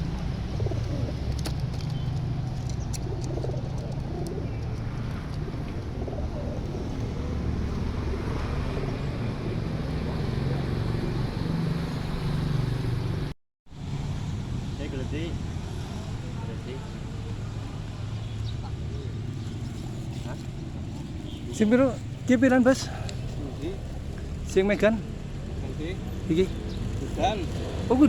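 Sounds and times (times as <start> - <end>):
pigeons cooing: 0.0 - 12.8, 15.8 - 28.0.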